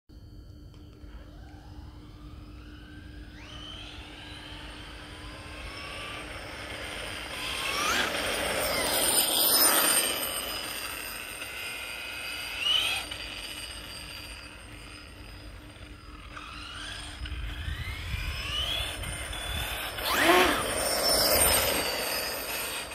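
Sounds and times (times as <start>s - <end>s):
electric motor whine: 0.6s - 22.9s.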